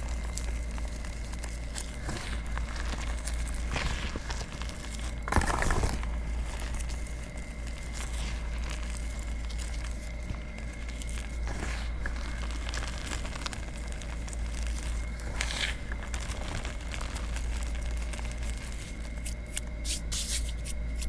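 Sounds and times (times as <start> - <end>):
fingers crunching powder: 0.0 - 21.0.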